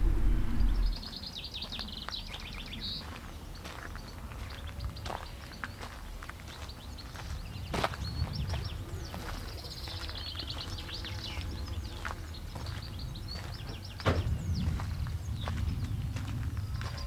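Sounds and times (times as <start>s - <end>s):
songbirds chirping and trilling: 0.0s - 17.0s
wind rumble on microphone: 0.0s - 17.0s.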